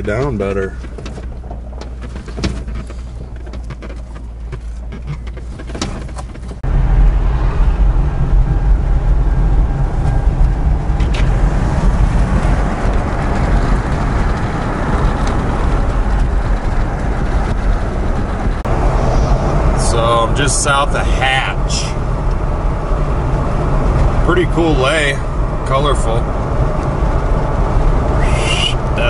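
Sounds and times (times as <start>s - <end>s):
knocks and rattles in vehicle: 0.0s - 7.4s, 8.0s - 18.8s, 19.8s - 29.0s
low engine rumble: 0.0s - 29.0s
tyre and wind noise: 0.0s - 29.0s.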